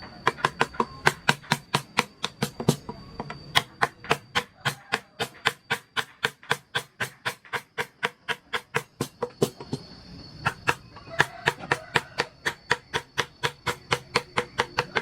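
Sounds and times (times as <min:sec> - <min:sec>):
mallet tapping chisel into wood: 0:00.2 - 0:09.8, 0:10.5 - 0:15.0.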